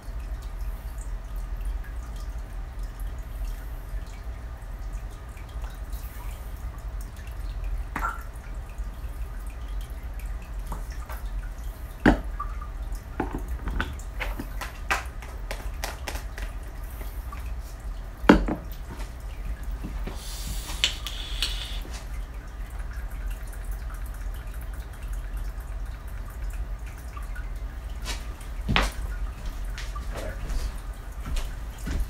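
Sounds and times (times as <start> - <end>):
low steady hum: 0.0 - 31.9
water dripping in sink: 0.0 - 32.0.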